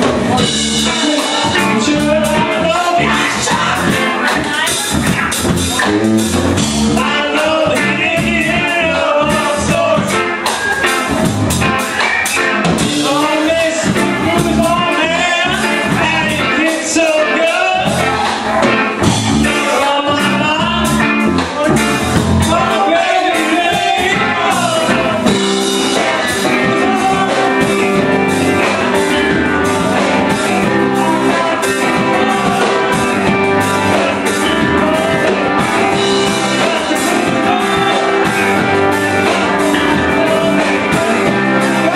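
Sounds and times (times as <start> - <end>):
person singing: 0.0 - 11.2, 11.8 - 41.9
rock and roll band music: 0.0 - 41.9.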